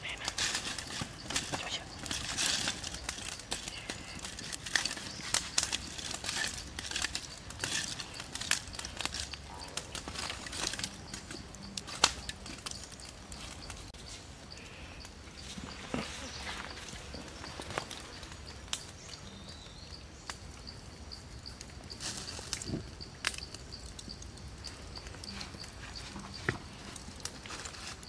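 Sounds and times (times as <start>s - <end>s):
charcoal fire crackling: 0.0s - 28.0s.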